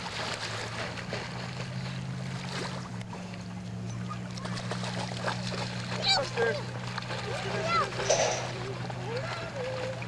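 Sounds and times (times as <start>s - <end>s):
water splashing and sloshing: 0.0s - 10.0s
steady low hum: 0.1s - 10.0s.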